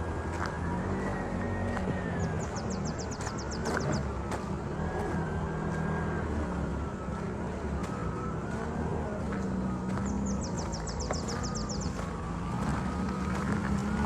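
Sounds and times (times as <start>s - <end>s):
motor engine running: 0.0s - 14.0s.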